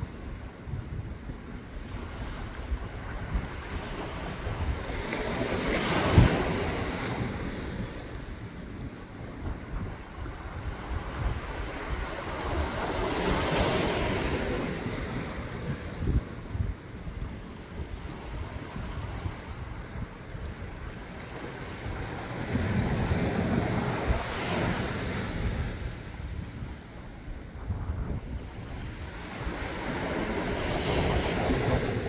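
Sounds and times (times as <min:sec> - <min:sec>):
wind buffeting microphone: 0:00.0 - 0:32.0
waves washing against concrete: 0:01.2 - 0:32.0.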